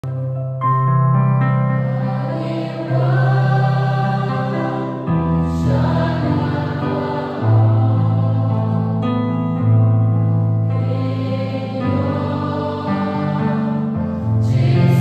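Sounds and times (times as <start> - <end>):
keyboard sustained chords: 0.0 - 15.0
choir singing a hymn: 1.8 - 15.0.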